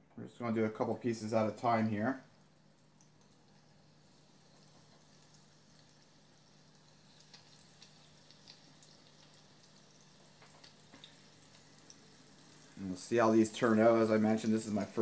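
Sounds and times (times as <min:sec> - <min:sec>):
oil sizzling with small pops: 0:00.1 - 0:15.0.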